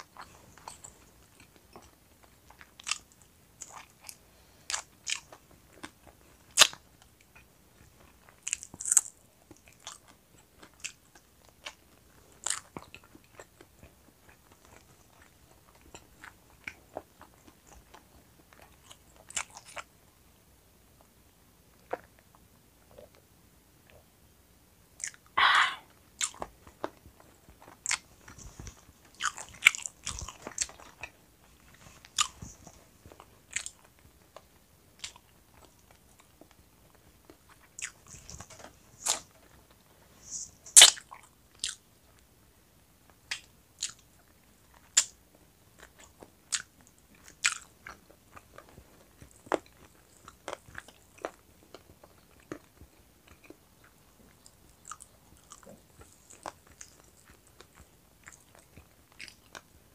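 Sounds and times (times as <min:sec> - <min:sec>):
person chewing and lip-smacking: 0:00.0 - 0:19.9, 0:25.0 - 0:39.7, 0:40.3 - 0:41.9, 0:43.3 - 0:45.2, 0:45.8 - 0:59.7.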